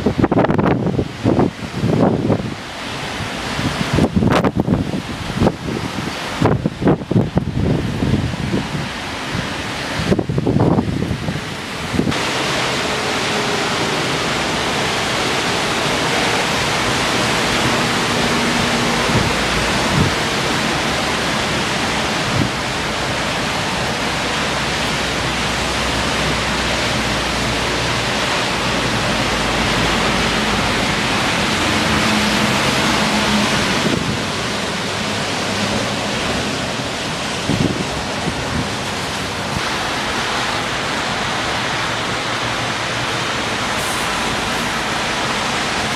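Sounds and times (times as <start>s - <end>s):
heavy rain and wind hiss: 0.0s - 45.9s.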